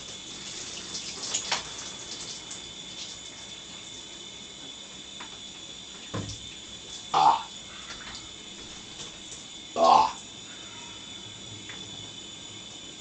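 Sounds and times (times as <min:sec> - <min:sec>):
shower water running: 0:00.0 - 0:13.0.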